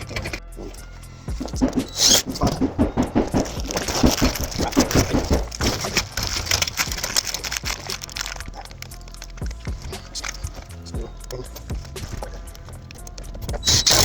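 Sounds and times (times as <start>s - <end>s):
metal duct knocks and rattles: 0.0s - 14.0s.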